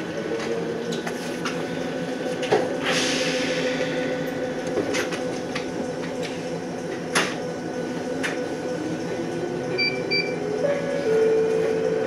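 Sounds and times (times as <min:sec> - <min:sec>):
train hum: 0:00.0 - 0:12.0.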